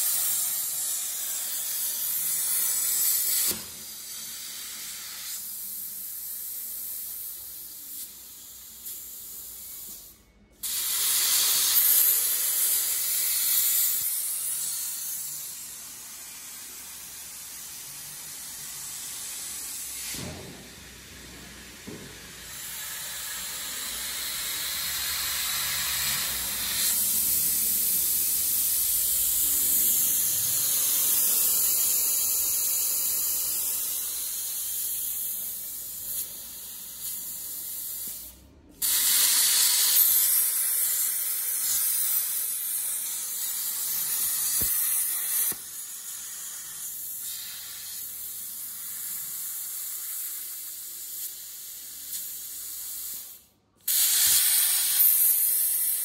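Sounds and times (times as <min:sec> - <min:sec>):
plasma torch cutting jet hiss: 0:00.0 - 0:56.0.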